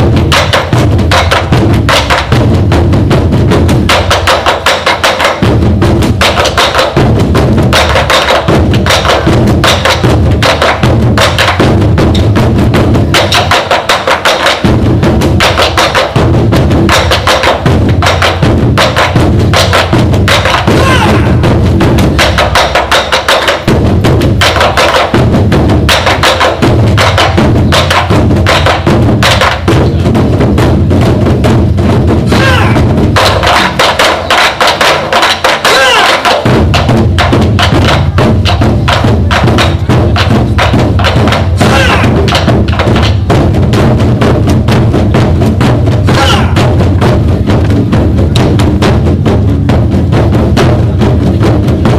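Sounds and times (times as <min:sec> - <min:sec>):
drum ensemble playing: 0:00.0 - 0:51.9.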